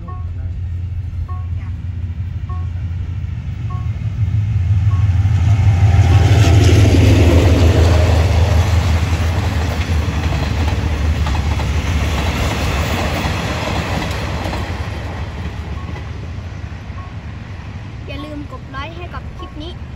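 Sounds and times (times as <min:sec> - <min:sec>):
train wheels clattering on rails: 0:00.0 - 0:17.6
diesel engine hum: 0:00.0 - 0:19.9.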